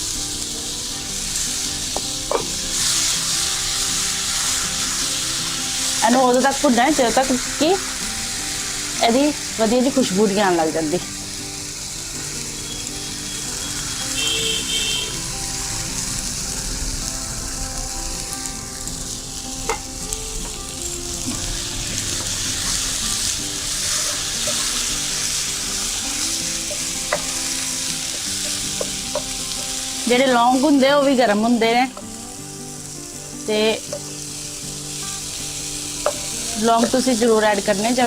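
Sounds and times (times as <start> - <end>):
paste sizzling in butter: 0.0 - 38.0.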